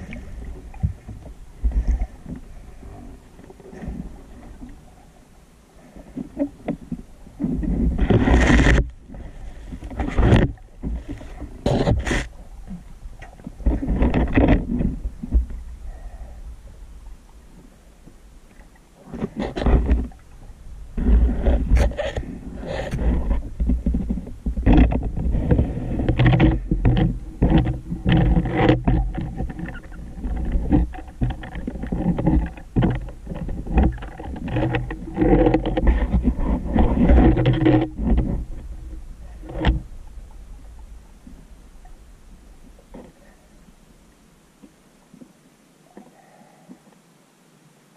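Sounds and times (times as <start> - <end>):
muffled underwater rumbling and knocking: 0.0 - 5.2, 5.8 - 45.3.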